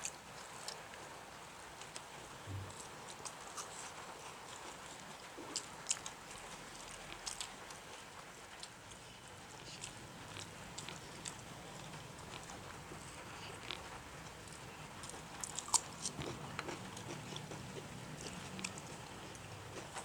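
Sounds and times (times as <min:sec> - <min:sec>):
chewing: 0:00.0 - 0:20.0.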